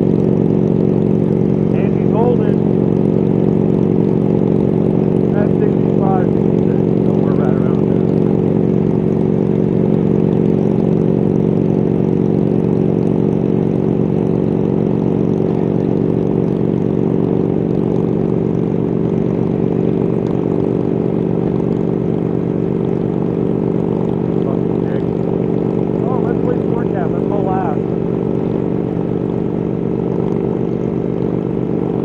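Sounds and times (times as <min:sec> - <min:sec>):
motorcycle engine running steadily: 0:00.0 - 0:32.0.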